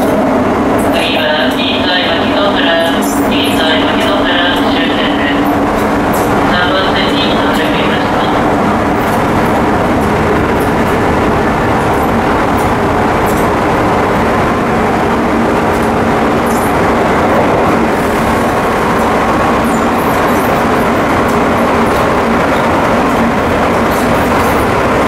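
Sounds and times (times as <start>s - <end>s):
train wheels rolling on rail: 0.0s - 25.0s.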